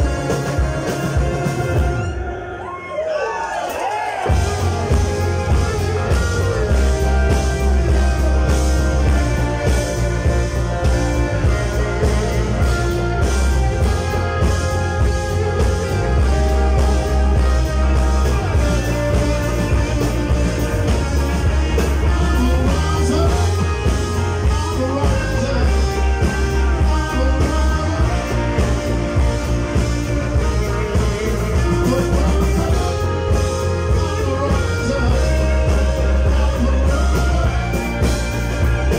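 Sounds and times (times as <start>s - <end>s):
drum kit: 0.0s - 2.3s, 3.7s - 38.9s
bass guitar: 0.0s - 2.4s, 3.8s - 38.9s
electric guitars: 0.0s - 38.9s
lead guitar bending notes: 4.3s - 38.9s.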